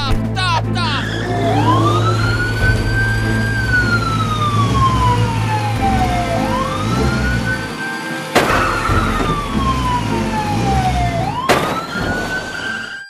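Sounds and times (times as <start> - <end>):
low hum: 0.2 - 12.5
toy siren wailing: 0.9 - 13.0.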